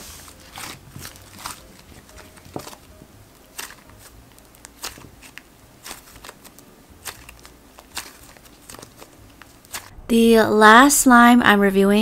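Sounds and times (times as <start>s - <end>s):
slime popping and crackling: 0.3s - 10.0s.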